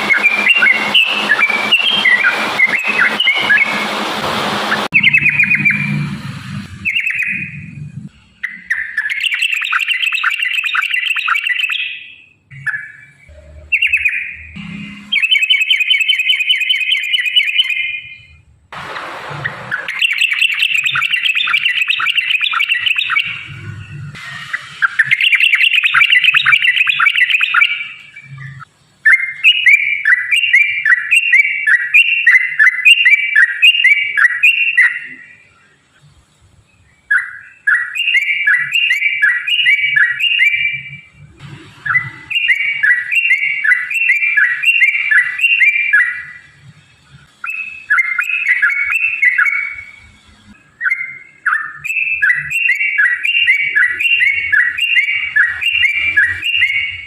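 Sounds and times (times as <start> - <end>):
bird singing bubbly notes: 0.0 - 3.9, 4.8 - 6.1, 6.8 - 18.4, 19.4 - 35.6, 36.7 - 46.6, 47.3 - 50.0, 50.6 - 57.0.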